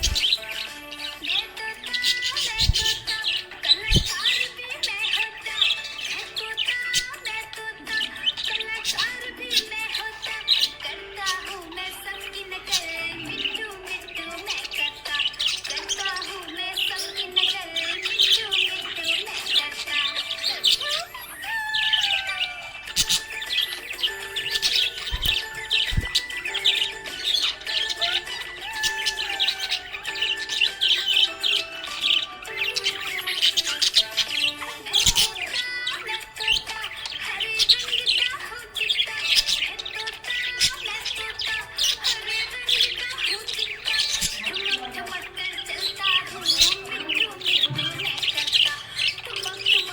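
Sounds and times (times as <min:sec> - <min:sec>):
budgerigars chirping and warbling: 0:00.0 - 0:49.9
soft background music: 0:00.0 - 0:49.9.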